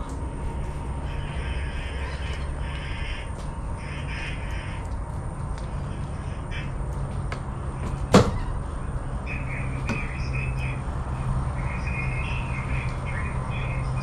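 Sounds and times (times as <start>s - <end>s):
steady low rumble: 0.0s - 14.0s
bird calling: 1.0s - 7.3s, 8.0s - 14.0s.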